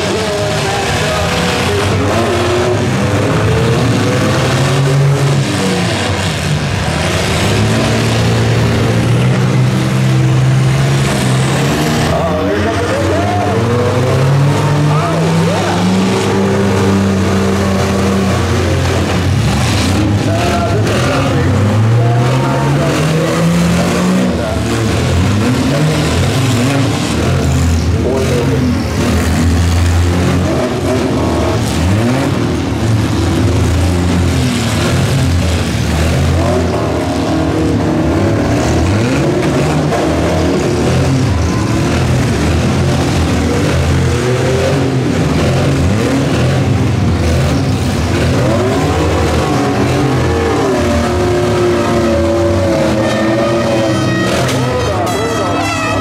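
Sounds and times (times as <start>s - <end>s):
truck engines revving: 0.0s - 56.0s.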